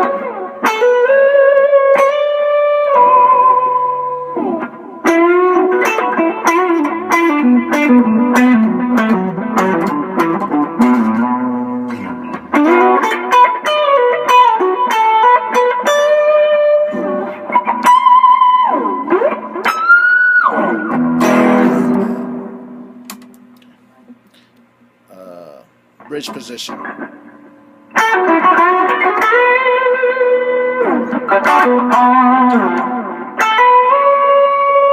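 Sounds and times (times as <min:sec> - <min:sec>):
distorted electric guitar notes: 0:00.0 - 0:24.4, 0:25.1 - 0:34.9.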